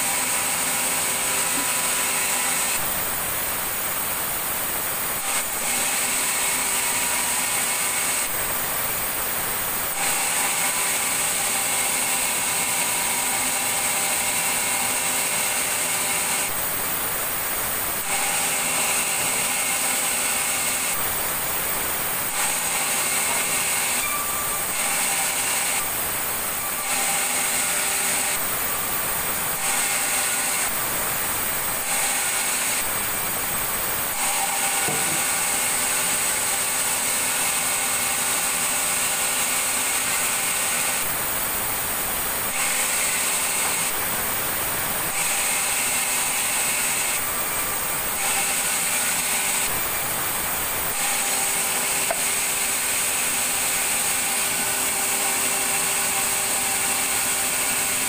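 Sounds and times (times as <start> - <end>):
power saw cutting wood: 0.0 - 58.0.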